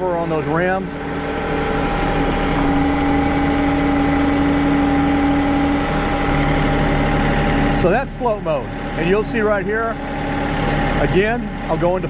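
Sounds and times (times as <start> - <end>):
hydraulic loader whine: 0.0 - 12.0
tractor diesel engine running: 0.0 - 12.0.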